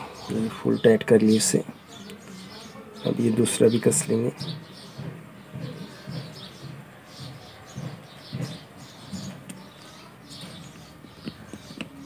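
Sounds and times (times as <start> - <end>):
bird chirps: 0.0 - 12.0
low murmur: 0.0 - 12.0.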